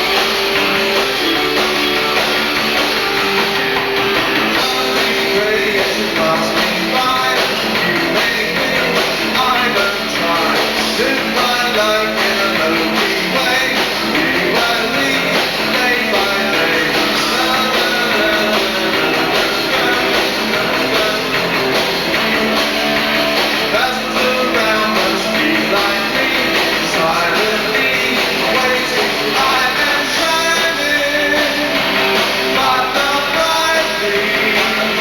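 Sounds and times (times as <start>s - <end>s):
electric guitar: 0.0s - 35.0s
rock band playing live: 0.0s - 35.0s.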